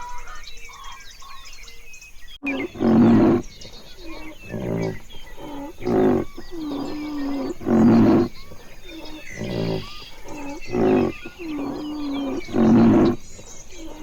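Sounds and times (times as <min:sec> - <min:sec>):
small birds chirping: 0:00.0 - 0:14.0
animal calling loudly: 0:02.4 - 0:14.0.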